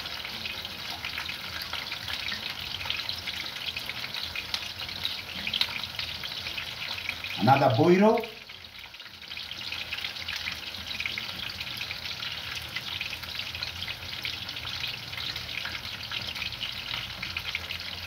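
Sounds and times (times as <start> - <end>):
stew sizzling in a pot: 0.0 - 18.0.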